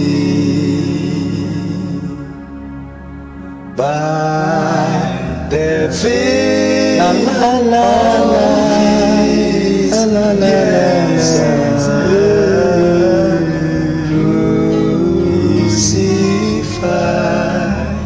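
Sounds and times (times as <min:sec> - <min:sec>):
man singing a gospel hymn: 0:00.0 - 0:02.4, 0:03.8 - 0:18.0
instrumental accompaniment: 0:00.0 - 0:18.0.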